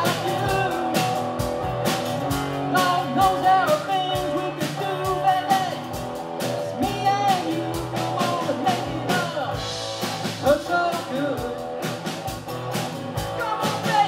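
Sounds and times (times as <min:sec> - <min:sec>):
drum kit steady beat: 0:00.0 - 0:14.0
electric and acoustic guitars: 0:00.0 - 0:14.0.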